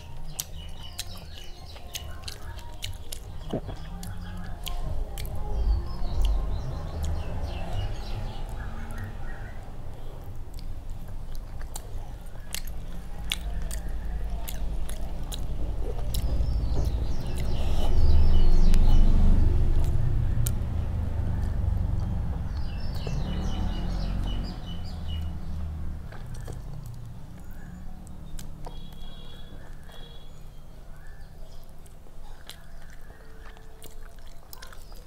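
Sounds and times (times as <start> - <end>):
chewing and wet mouth sounds: 0.0 - 35.0.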